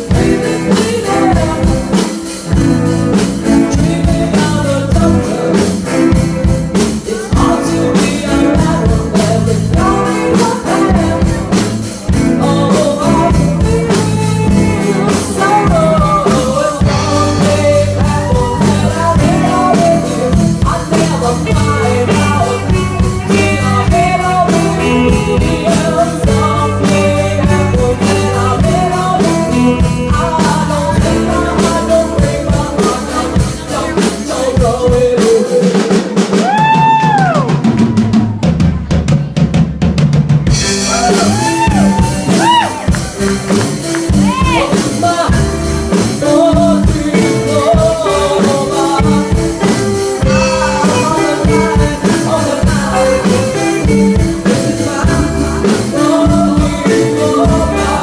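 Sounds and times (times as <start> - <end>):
man singing: 0.0 - 38.0, 40.5 - 58.0
electric guitars: 0.0 - 38.1, 40.5 - 58.0
drum kit: 0.0 - 58.0.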